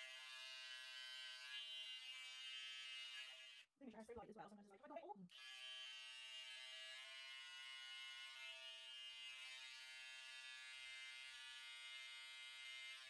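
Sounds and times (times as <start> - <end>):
electric hair clippers buzzing: 0.0 - 3.7, 5.3 - 13.0.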